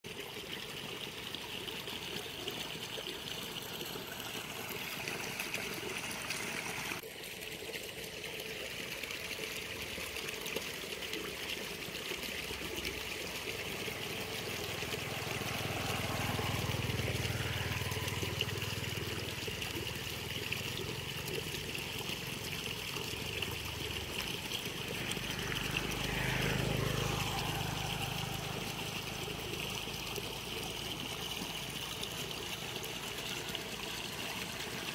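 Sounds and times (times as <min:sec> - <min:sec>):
small motorbikes passing: 0:00.4 - 0:07.0, 0:11.2 - 0:34.9.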